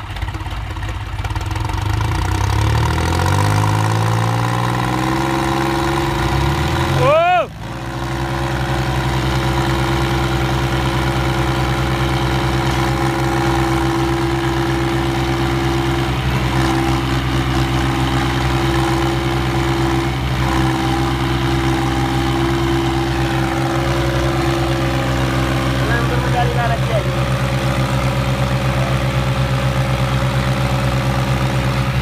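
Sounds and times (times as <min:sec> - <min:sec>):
tractor diesel engines under load: 0:00.0 - 0:32.0.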